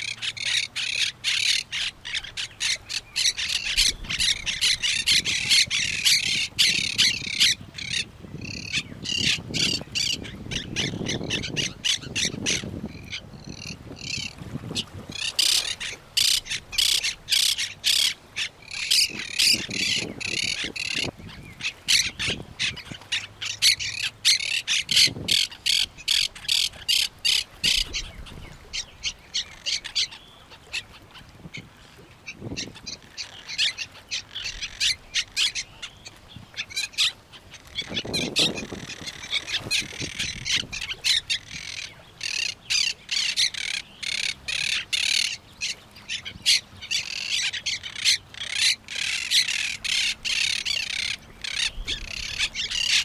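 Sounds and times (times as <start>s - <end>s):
birds calling and squawking: 0.0s - 53.0s.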